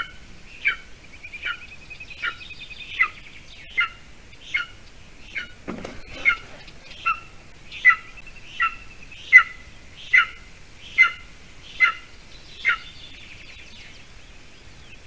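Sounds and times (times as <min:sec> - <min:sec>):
eagle chick calling: 0:00.0 - 0:14.0.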